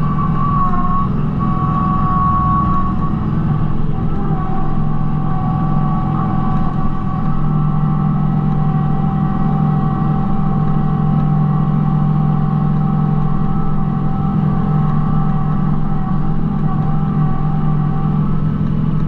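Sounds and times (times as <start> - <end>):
high-pitched whine: 0.0 - 19.0
tractor diesel engine running: 0.0 - 19.0.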